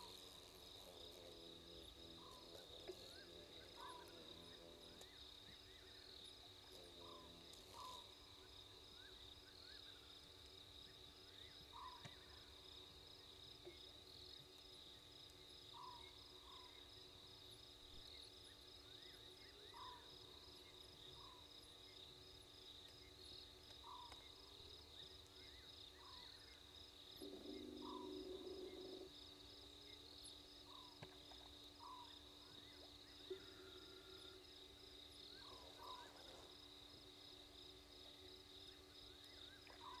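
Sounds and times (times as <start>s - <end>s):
crickets trilling: 0.0s - 40.0s
insect chirps: 0.0s - 40.0s.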